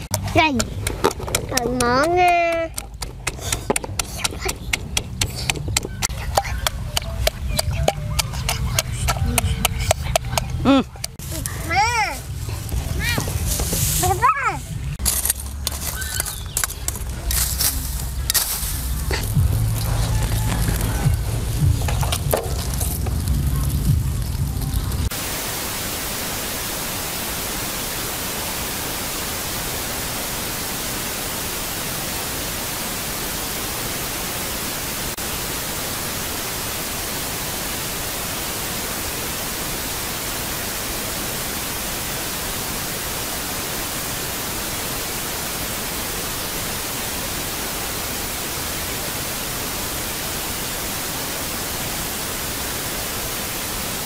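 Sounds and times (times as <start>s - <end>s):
steady static hiss: 0.0s - 54.0s.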